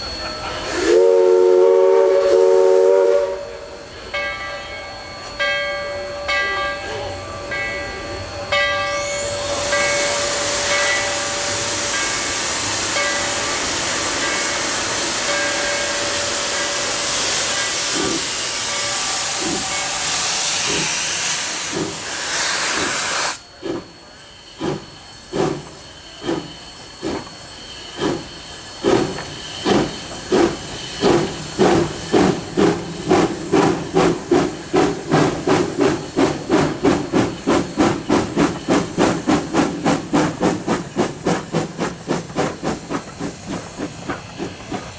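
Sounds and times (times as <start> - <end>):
steam locomotive exhaust chuffs: 0.0 - 5.5, 6.2 - 44.9
steam venting hiss: 8.9 - 44.9.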